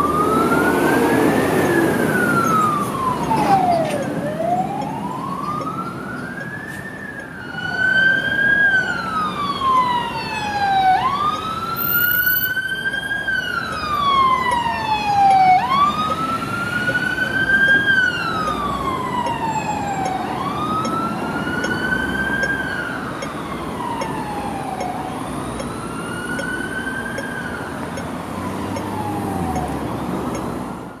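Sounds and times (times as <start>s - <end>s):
siren wailing: 0.0s - 30.0s
traffic noise: 0.0s - 31.0s.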